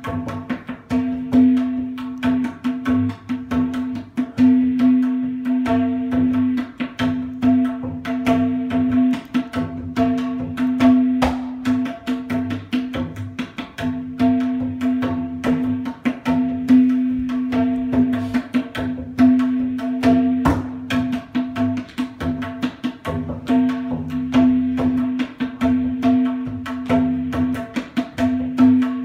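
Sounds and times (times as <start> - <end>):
tabla played fast: 0.0 - 29.0.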